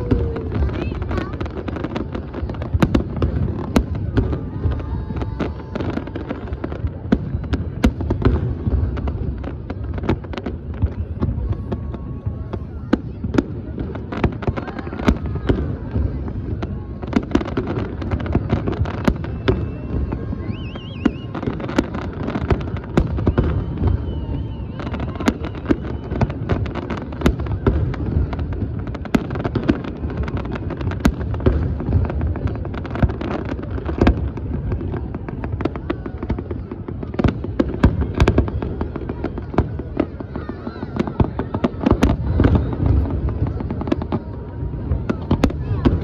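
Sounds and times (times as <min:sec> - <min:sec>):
distant fireworks rumble: 0:00.0 - 0:46.0
fireworks bangs and crackles: 0:00.0 - 0:46.0.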